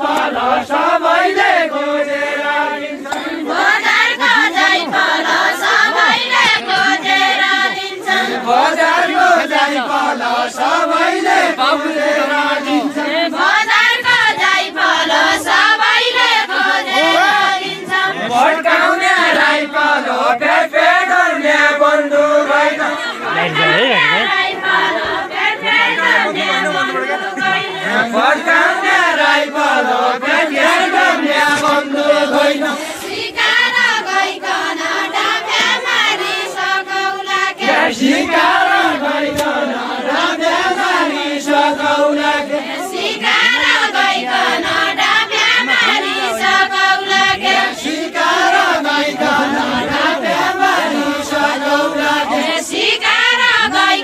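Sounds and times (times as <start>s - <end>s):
group singing folk song: 0.0s - 54.0s.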